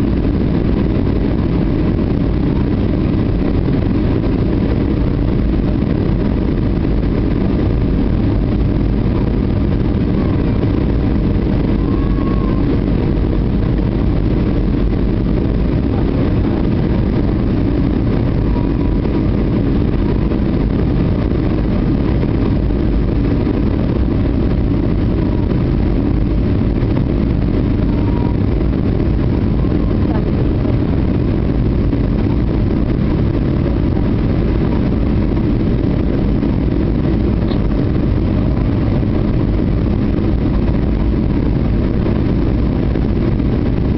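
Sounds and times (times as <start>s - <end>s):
airliner cabin engine roar: 0.0s - 43.9s.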